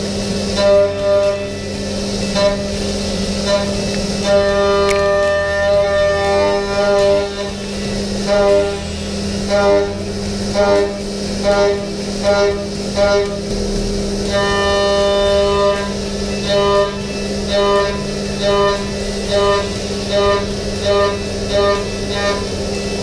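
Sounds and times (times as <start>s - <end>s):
milling machine hum: 0.0s - 23.0s
pitched cutting whine: 0.0s - 23.0s.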